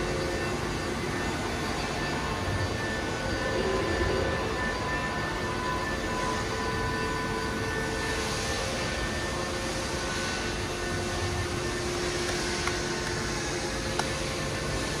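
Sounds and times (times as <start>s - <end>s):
faint high whine: 0.0s - 15.0s
machinery hum: 0.0s - 15.0s.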